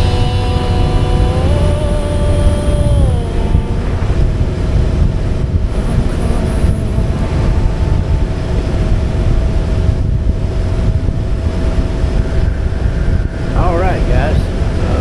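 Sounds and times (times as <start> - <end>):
motorcycle cruising: 0.0 - 15.0
wind rushing over microphone: 0.0 - 15.0.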